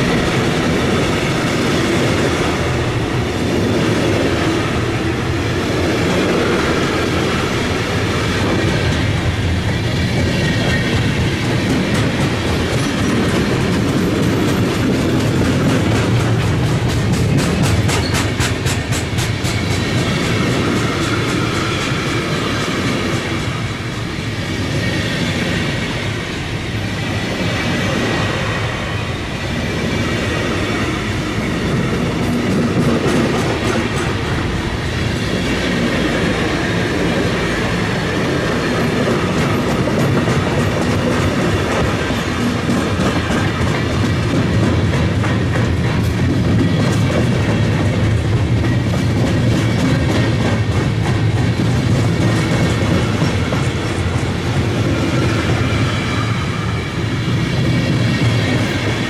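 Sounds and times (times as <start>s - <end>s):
wheels clacking over rail joints: 0.0s - 23.8s, 25.2s - 59.0s
freight train rumbling on rails: 0.0s - 59.0s.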